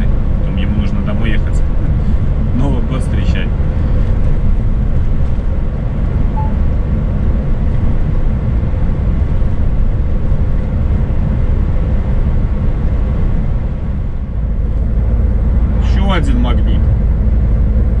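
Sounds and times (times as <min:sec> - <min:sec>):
truck engine and tyres droning: 0:00.0 - 0:18.0.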